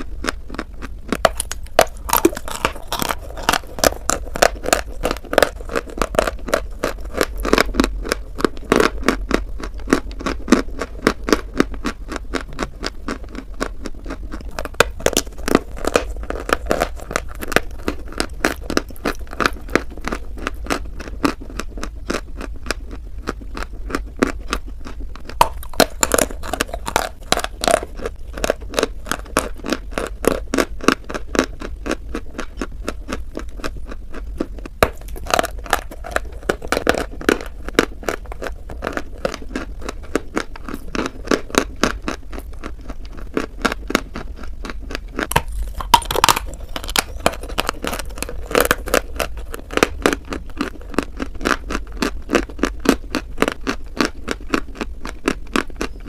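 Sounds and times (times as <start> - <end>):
chewing crunchy chalk: 0.0 - 56.0.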